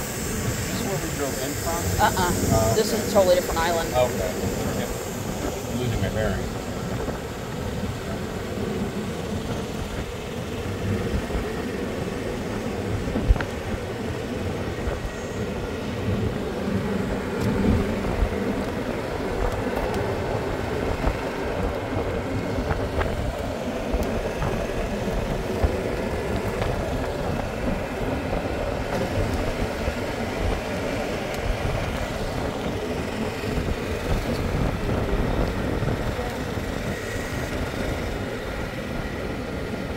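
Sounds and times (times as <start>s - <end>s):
golf cart motor and tyres: 0.0s - 39.9s
wind on microphone: 0.0s - 39.9s.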